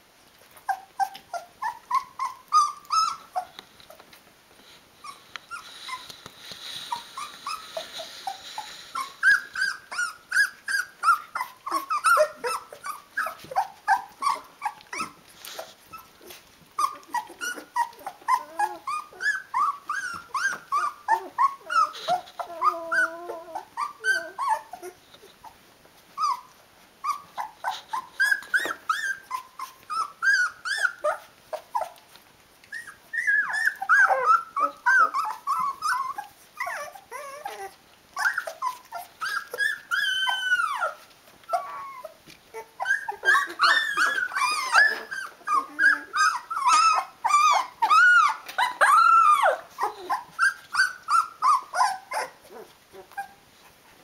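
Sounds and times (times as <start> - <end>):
puppies whimpering and whining: 0.3 - 54.0.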